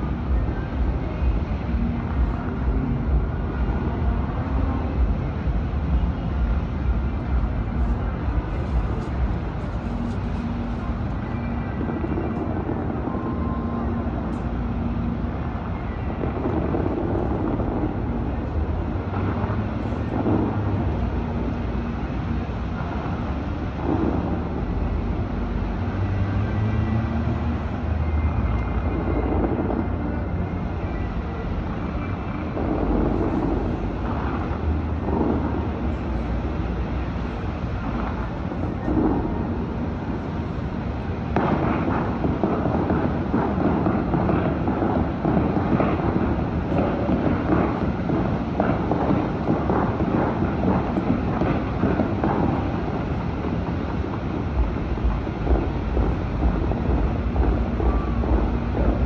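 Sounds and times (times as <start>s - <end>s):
city rumble: 0.0s - 59.0s
fountain water jets firing: 0.0s - 59.0s
wind: 0.0s - 59.0s.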